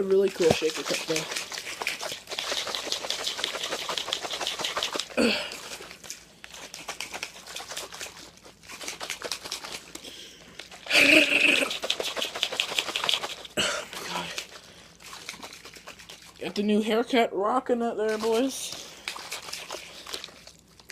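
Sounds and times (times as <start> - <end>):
drink sloshing in plastic shaker: 0.0 - 17.2, 18.0 - 20.9.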